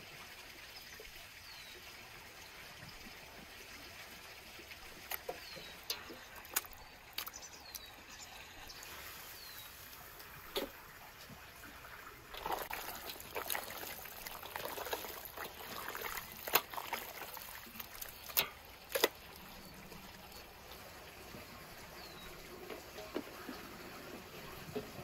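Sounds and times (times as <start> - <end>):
liquid trickling: 0.0 - 25.0.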